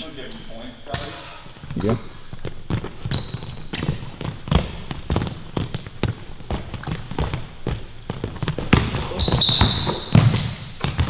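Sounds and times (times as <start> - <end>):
sneakers squeaking: 0.0 - 11.0
basketball bouncing: 0.9 - 11.0.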